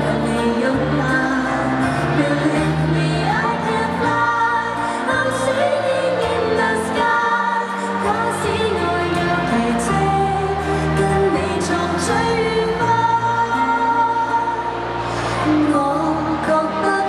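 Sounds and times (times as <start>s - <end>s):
woman singing pop song: 0.0s - 17.0s.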